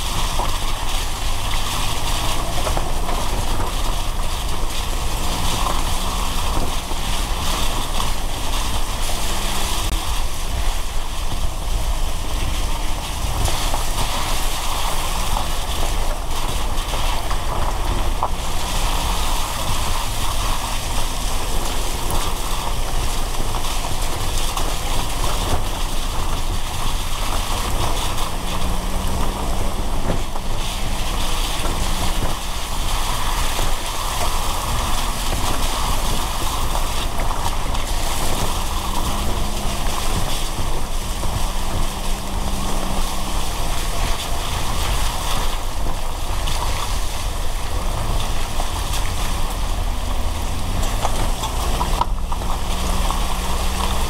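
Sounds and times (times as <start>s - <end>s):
low engine hum: 0.0s - 54.0s
rain and tyres hissing on wet road: 0.0s - 54.0s.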